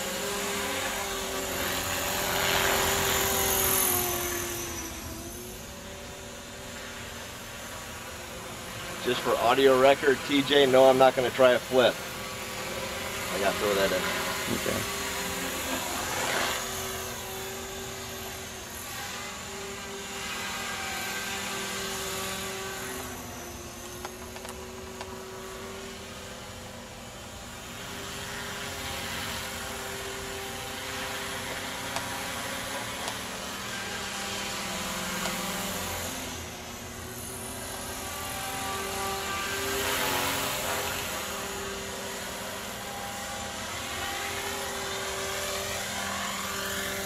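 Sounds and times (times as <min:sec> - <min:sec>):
model helicopter whine: 0:00.0 - 0:47.0.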